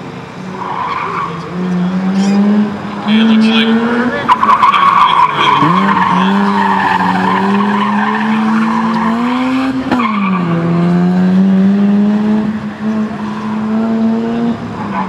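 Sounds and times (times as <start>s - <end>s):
tires squealing: 0.4s - 15.0s
rotary engine revving hard: 1.0s - 15.0s.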